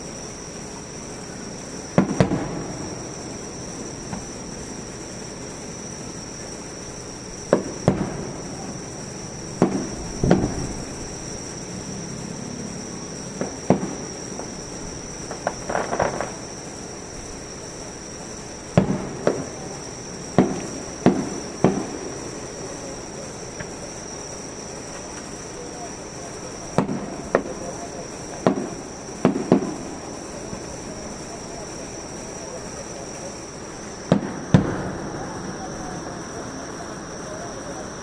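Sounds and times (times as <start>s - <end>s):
fireworks bursting: 0.0s - 38.0s
high insect trill: 0.0s - 38.0s.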